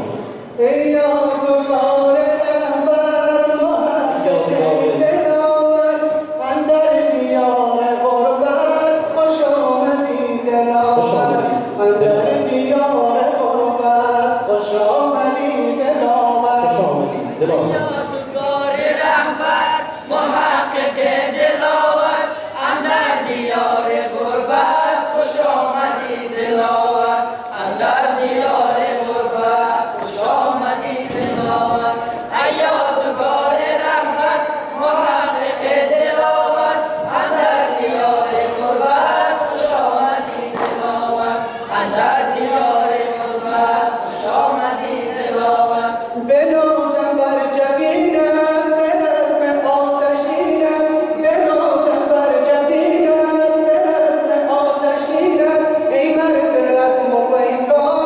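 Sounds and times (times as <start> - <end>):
boys' choir singing: 6.0 - 58.0.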